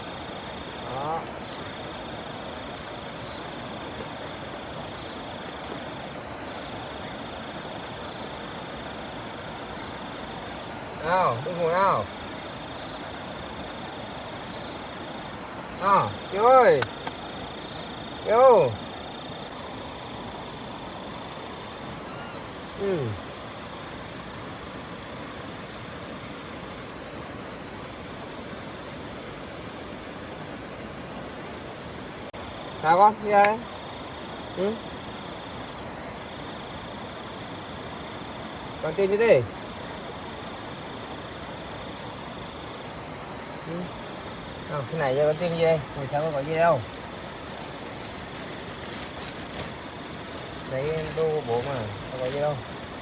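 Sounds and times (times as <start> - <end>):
insect trilling: 0.0 - 29.8, 31.3 - 53.0
steady hiss: 0.0 - 53.0
stream rushing: 0.0 - 53.0.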